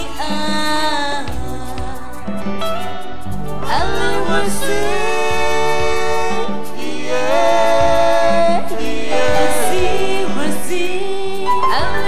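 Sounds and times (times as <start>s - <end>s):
song with singing voice: 0.0s - 12.0s.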